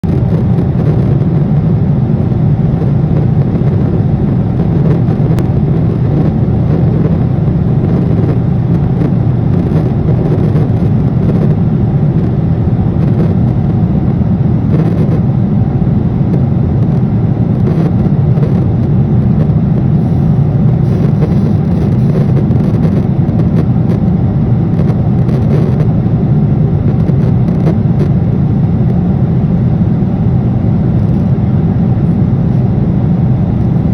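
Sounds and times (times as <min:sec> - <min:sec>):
airliner cabin roar: 0:00.0 - 0:33.9.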